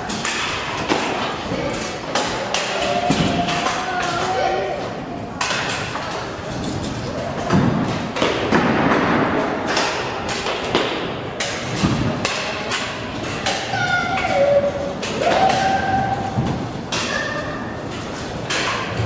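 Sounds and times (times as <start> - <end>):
scooters clattering on ramps: 0.0 - 19.0.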